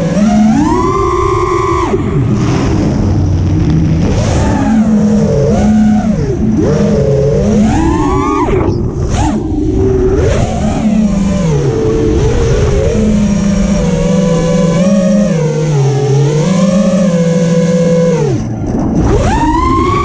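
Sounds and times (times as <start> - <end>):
drone motors whining: 0.0 - 20.0
wind rush on microphone: 0.0 - 20.0.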